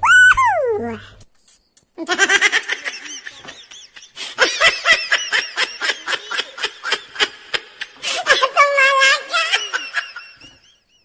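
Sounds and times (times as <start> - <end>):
children giggling: 2.0 - 11.0.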